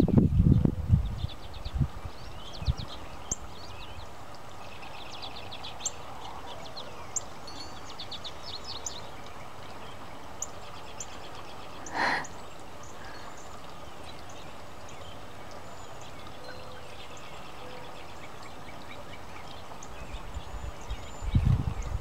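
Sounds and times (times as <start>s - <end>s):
songbirds chirping and twittering: 0.0s - 22.0s.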